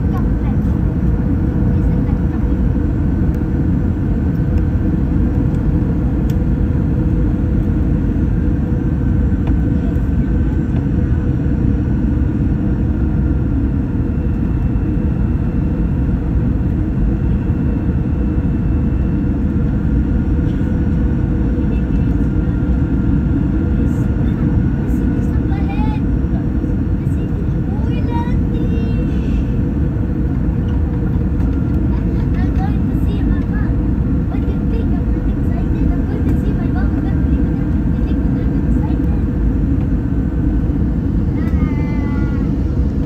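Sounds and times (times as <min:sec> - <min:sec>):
airliner engines and airflow rumble: 0:00.0 - 0:43.0.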